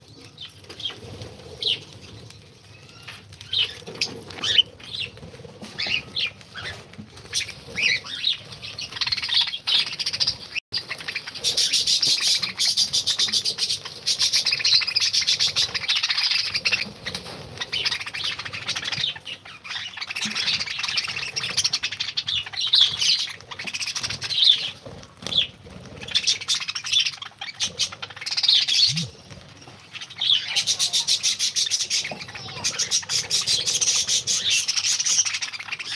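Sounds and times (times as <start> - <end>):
birds chirping and chattering: 0.0 - 35.9.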